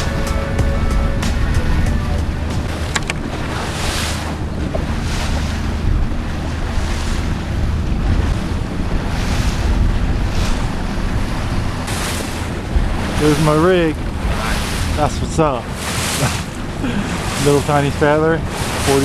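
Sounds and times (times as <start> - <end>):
waves washing against hull: 0.0 - 19.0
wind buffeting microphone: 0.0 - 19.0.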